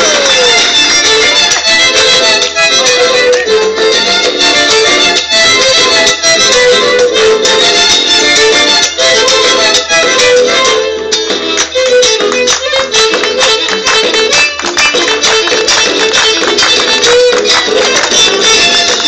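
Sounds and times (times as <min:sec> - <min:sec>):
folk dance music: 0:00.0 - 0:19.0
guitar: 0:00.0 - 0:19.0
violin: 0:00.0 - 0:19.0.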